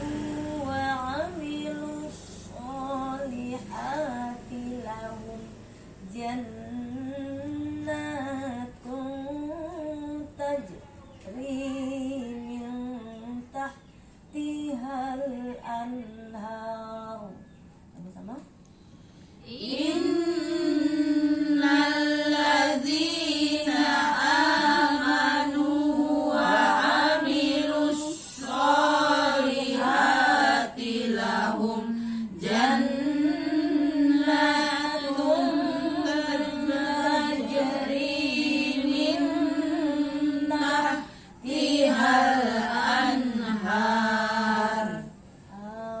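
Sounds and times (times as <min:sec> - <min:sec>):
woman chanting recitation: 0:00.0 - 0:18.6, 0:19.4 - 0:46.0.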